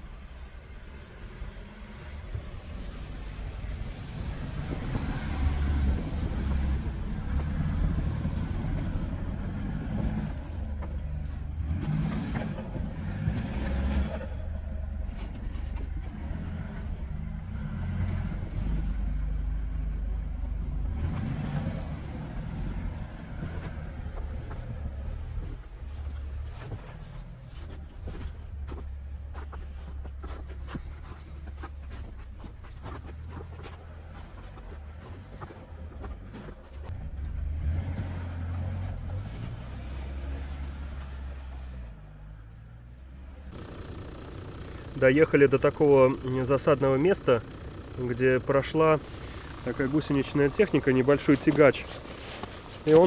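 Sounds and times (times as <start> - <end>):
diesel engine running at low revs: 0.0 - 53.0.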